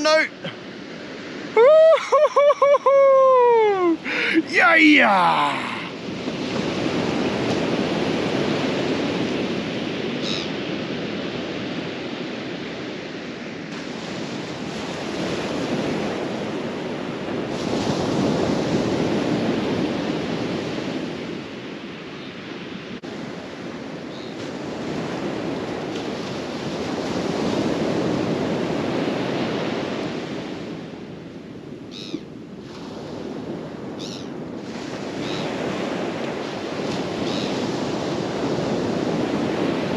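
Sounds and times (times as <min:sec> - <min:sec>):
ocean surf breaking: 0:00.0 - 0:31.2, 0:32.6 - 0:39.9.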